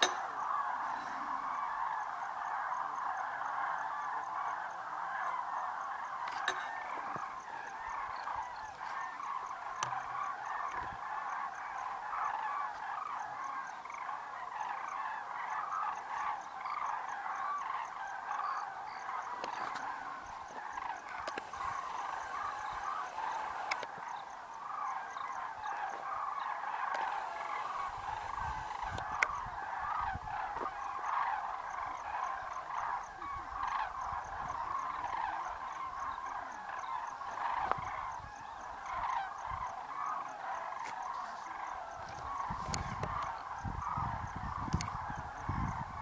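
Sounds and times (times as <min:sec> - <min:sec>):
cranes trumpeting calls: 0:00.0 - 0:46.0.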